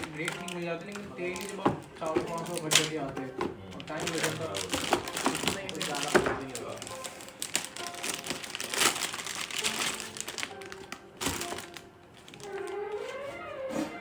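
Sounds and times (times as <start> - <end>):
packaging crinkling and rustling: 0.0 - 13.5
faint music with gliding notes: 0.0 - 14.0.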